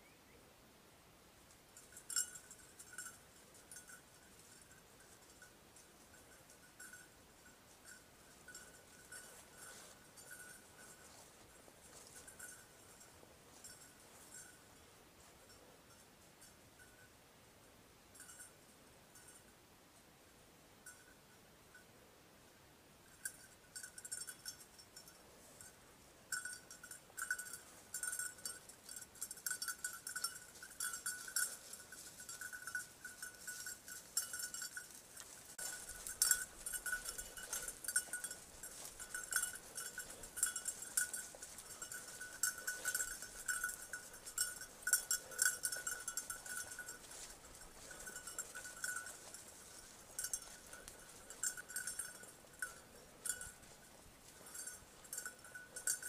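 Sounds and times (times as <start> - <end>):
collar bell jingling: 1.5 - 17.2, 18.0 - 19.5, 20.8 - 21.9, 23.0 - 56.0.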